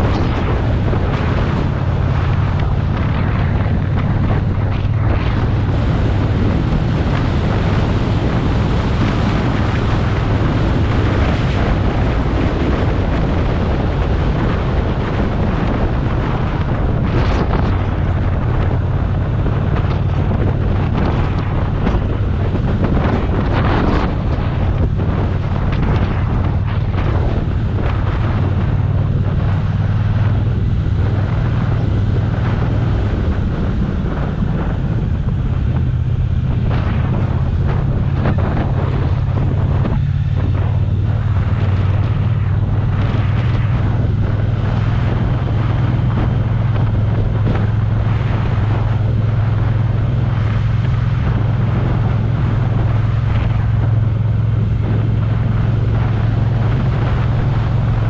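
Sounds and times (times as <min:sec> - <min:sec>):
motorcycle engine droning: 0:00.0 - 0:58.0
wind rushing over microphone: 0:00.0 - 0:58.0.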